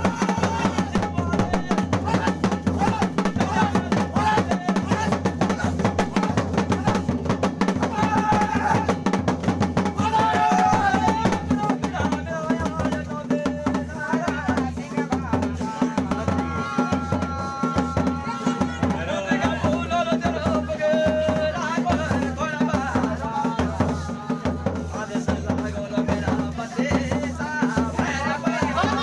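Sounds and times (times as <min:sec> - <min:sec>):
fast drumming: 0:00.0 - 0:29.0.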